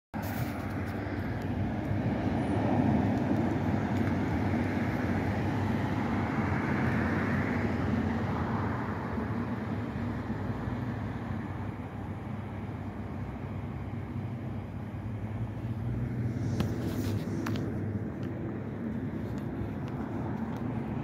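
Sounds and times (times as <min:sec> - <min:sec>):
vehicle engine humming: 0:00.2 - 0:21.0.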